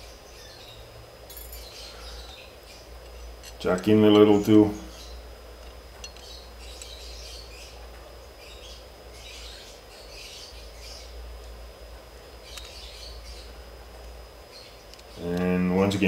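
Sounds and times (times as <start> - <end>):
birds chirping: 0.0 - 16.0
low steady hum: 0.0 - 16.0.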